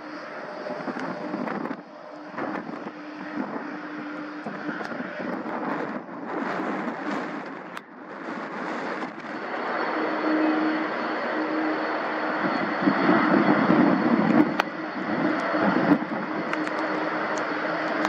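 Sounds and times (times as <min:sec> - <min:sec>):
jet engines at taxi power: 0:00.0 - 0:18.0
wind buffeting microphone: 0:00.3 - 0:18.0.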